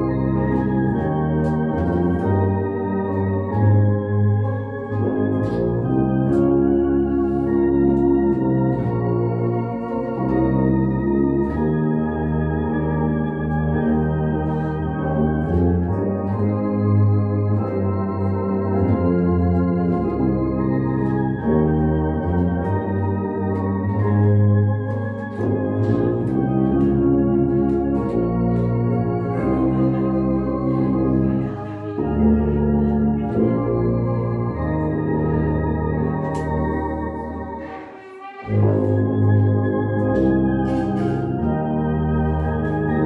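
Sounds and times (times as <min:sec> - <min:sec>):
tuba and saxophone playing hymn: 0:00.0 - 0:43.0.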